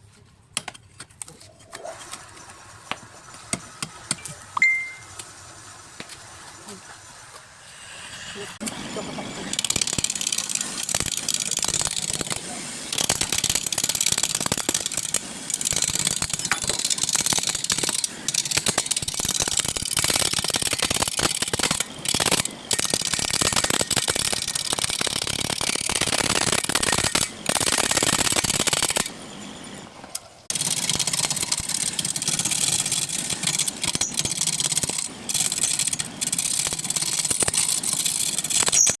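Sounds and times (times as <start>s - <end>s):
turning tool cutting wood: 1.4s - 39.0s
wood lathe motor hum: 5.1s - 29.5s, 30.1s - 38.8s.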